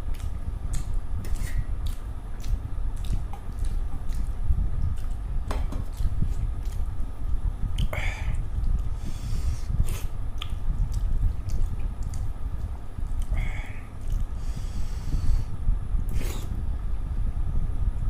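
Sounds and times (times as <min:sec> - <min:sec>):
chewing and wet mouth sounds: 0:00.0 - 0:15.4.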